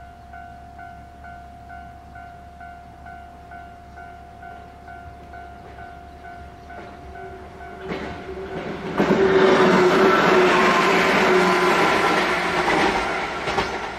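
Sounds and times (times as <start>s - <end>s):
electric train passing: 0.0s - 13.9s
level-crossing warning bell: 0.0s - 13.9s.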